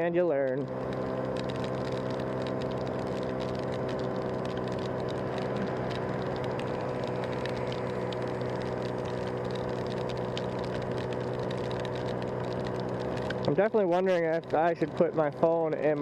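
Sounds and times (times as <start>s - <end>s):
raindrops pattering: 0.5s - 16.0s
scooter engine running: 0.6s - 16.0s.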